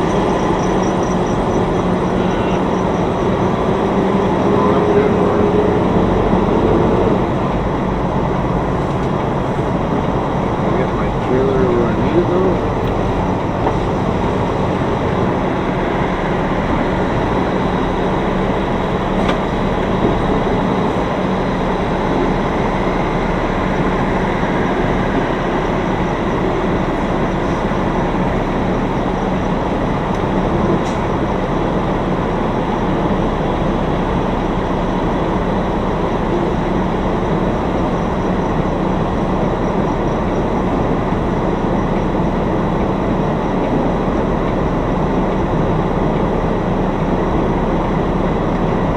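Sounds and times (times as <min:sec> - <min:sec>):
diesel truck engine rumbling: 0:00.0 - 0:48.9
low steady hum: 0:00.0 - 0:48.9.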